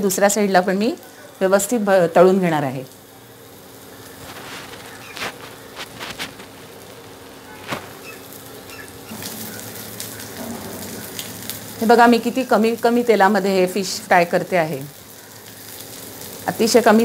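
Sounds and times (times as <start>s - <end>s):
induction cooktop hum: 0.0s - 17.0s
fish sizzling in a pan: 0.8s - 17.0s.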